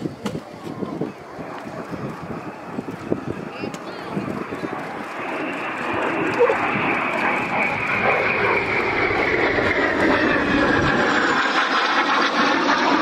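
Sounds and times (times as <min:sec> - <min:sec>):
airplane flying past: 0:00.4 - 0:13.0.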